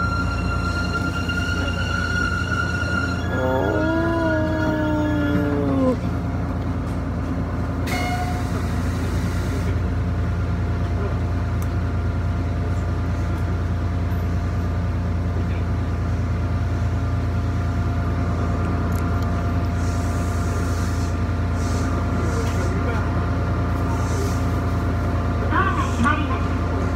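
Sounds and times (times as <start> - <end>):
railcar engine idling hum: 0.0 - 26.9.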